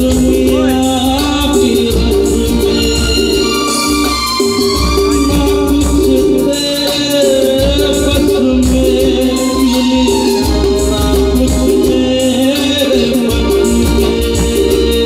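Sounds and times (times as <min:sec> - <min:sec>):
live band music: 0:00.0 - 0:15.0
man singing into microphone: 0:00.0 - 0:15.0.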